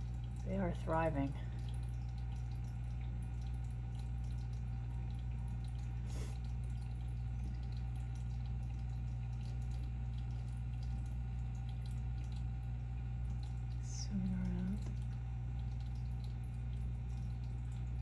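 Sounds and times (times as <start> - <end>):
filter low hum: 0.0 - 18.0
water trickling and dripping: 0.0 - 18.0.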